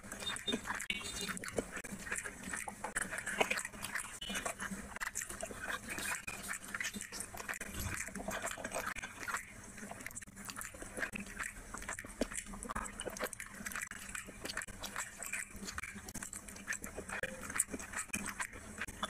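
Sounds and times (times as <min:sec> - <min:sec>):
fingers mixing rice on plate: 0:00.0 - 0:19.0
wet chewing sounds: 0:00.0 - 0:19.0.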